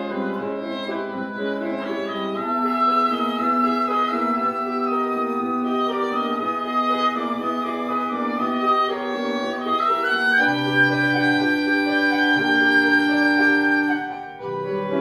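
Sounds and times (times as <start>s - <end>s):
wind quintet playing chords: 0.0s - 15.0s.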